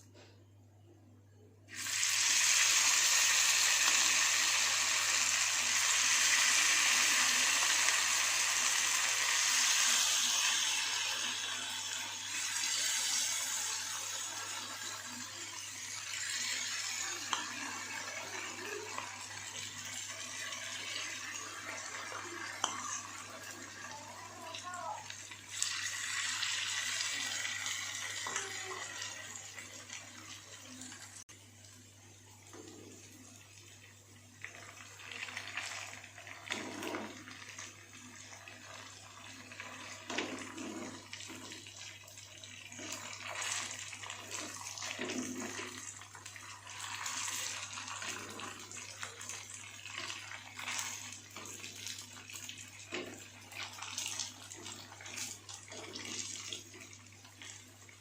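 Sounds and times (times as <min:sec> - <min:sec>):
oil sizzling in a pan: 0:01.7 - 0:58.0.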